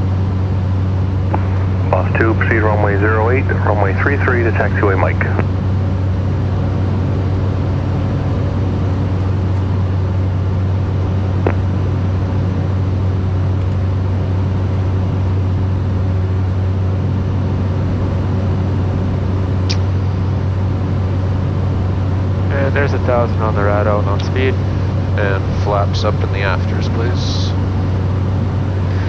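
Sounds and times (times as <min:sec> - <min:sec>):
turboprop engine drone: 0:00.0 - 0:29.0.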